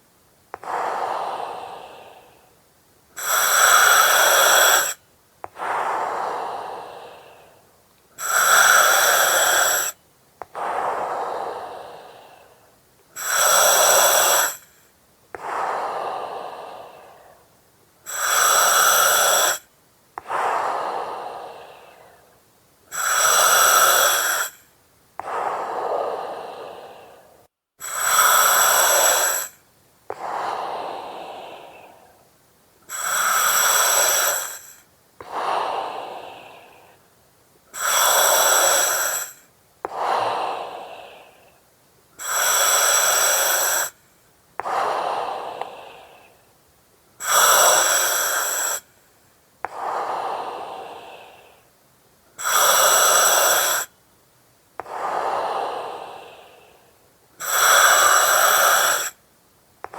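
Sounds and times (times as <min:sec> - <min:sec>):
breathing through oxygen mask: 0:00.6 - 0:02.5, 0:03.2 - 0:07.6, 0:08.2 - 0:22.3, 0:22.9 - 0:32.2, 0:32.8 - 0:37.0, 0:37.7 - 0:41.6, 0:42.2 - 0:44.0, 0:44.6 - 0:46.4, 0:47.2 - 0:49.0, 0:49.6 - 0:51.8, 0:52.4 - 0:53.9, 0:54.8 - 0:56.8, 0:57.4 - 0:59.2.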